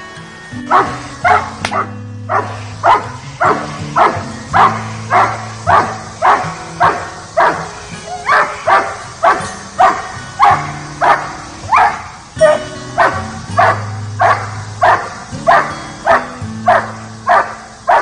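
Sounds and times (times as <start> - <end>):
dog barking sharply: 0.7 - 7.6, 8.3 - 12.0, 13.0 - 18.0.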